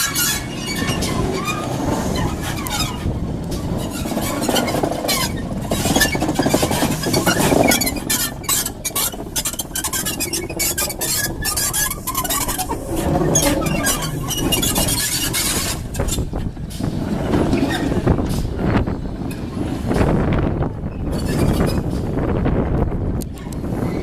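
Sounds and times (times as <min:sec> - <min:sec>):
train wheels squealing on rails: 0:00.0 - 0:19.5, 0:20.8 - 0:22.1, 0:23.3 - 0:24.0.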